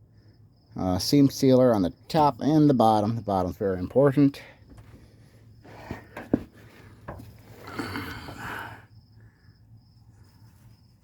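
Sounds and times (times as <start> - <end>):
faint insect chirping: 0.0 - 11.0.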